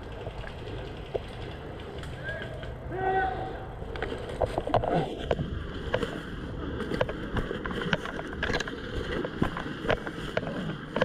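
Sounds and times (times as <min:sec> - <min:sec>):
low rumbling wind: 0:00.0 - 0:11.0.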